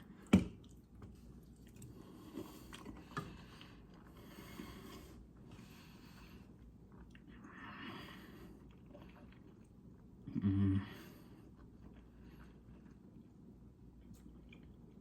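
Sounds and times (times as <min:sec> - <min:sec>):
person chewing food: 0:00.0 - 0:07.5, 0:08.3 - 0:10.2, 0:11.3 - 0:15.0.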